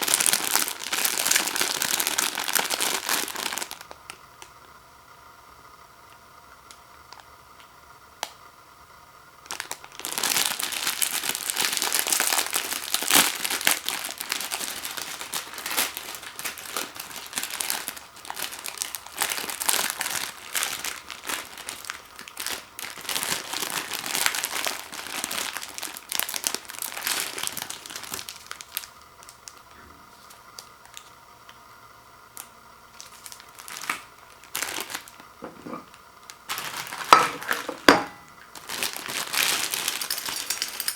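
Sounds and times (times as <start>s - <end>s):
plastic packaging crinkling: 0.0s - 4.5s, 9.4s - 31.2s, 32.4s - 40.9s.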